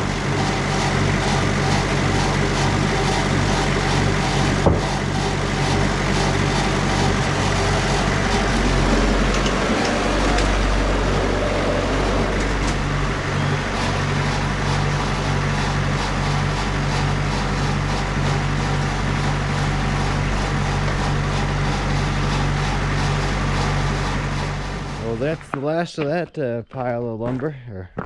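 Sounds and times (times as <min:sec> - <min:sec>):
diesel engine running: 0:00.0 - 0:26.3.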